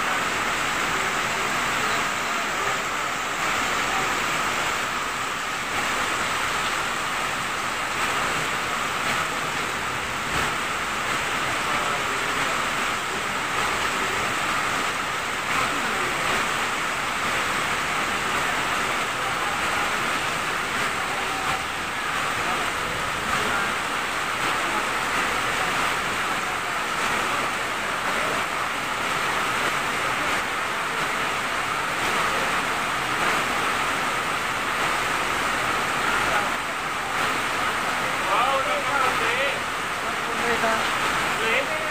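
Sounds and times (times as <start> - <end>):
heavy rain on roof: 0.0 - 41.9.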